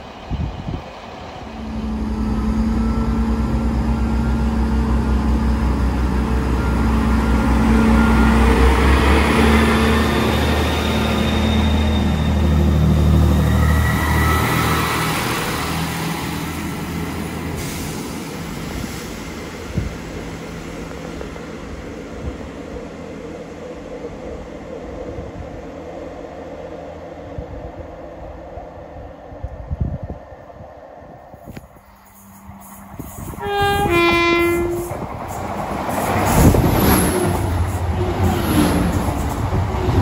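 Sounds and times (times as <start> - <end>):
diesel train engine drone: 0.0 - 40.0.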